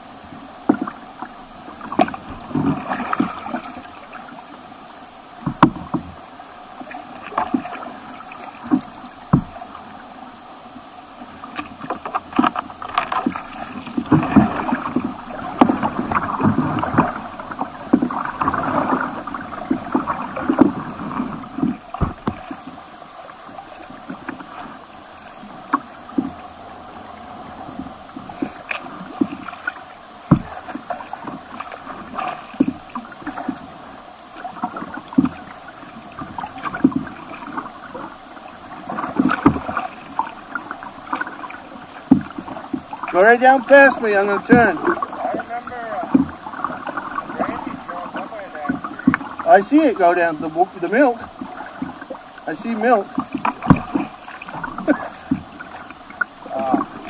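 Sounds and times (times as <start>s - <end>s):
water rushing against kayak hull: 0.0s - 57.0s
splashes and knocks on boat: 0.6s - 4.4s, 5.4s - 6.2s, 6.8s - 10.0s, 11.4s - 22.8s, 25.4s - 57.0s.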